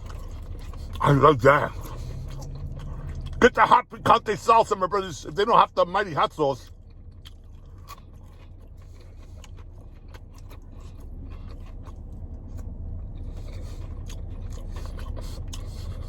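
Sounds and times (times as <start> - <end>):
chewing crispy chicken nuggets: 0.0 - 16.0
steady low hum: 0.0 - 16.0.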